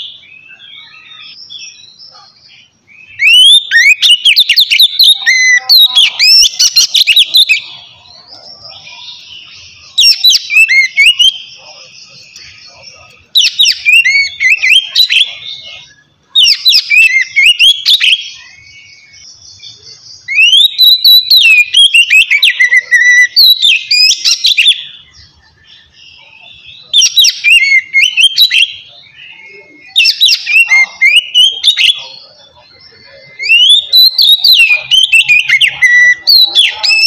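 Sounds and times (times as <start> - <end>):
bird whistled song: 0.0 - 37.0.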